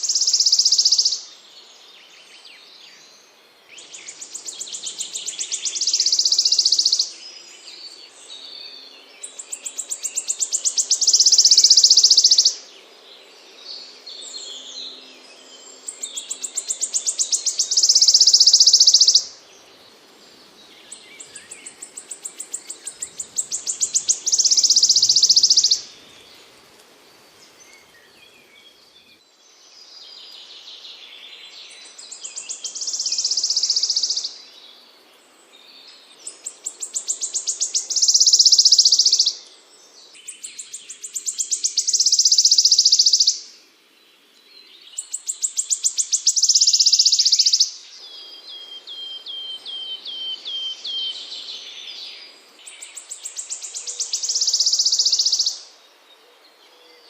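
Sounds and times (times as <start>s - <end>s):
songbird singing buzzy trill: 0.0s - 57.0s.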